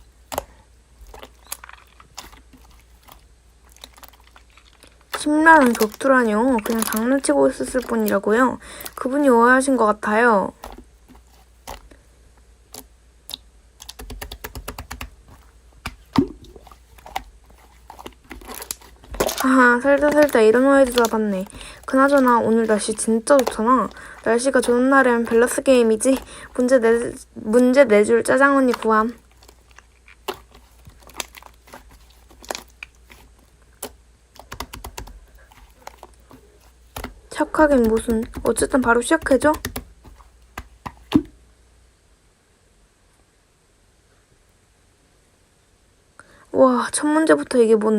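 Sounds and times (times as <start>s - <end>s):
slime squishing: 0.0s - 12.0s, 12.6s - 41.3s.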